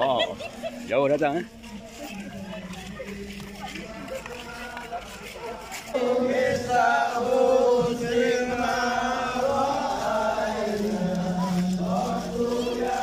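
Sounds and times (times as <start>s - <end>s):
men and boys chanting in unison: 2.4s - 13.0s.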